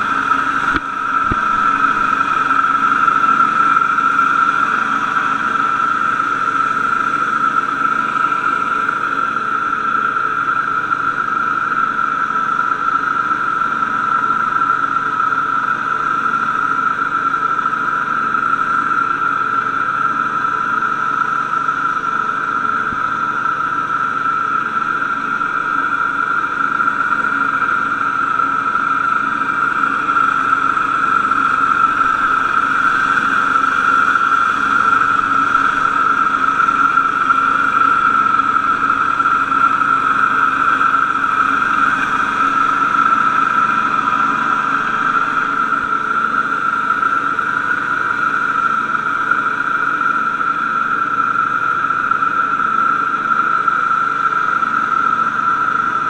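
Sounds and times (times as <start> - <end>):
lawn mower engine drone: 0.0 - 56.0.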